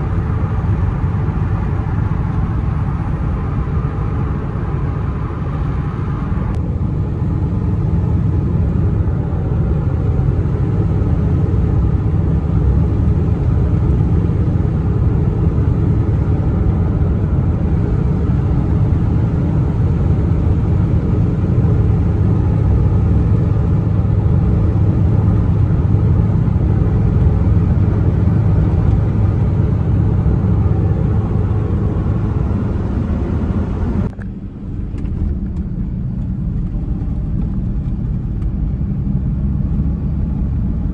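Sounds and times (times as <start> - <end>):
pickup truck engine rumbling: 0.0 - 40.9.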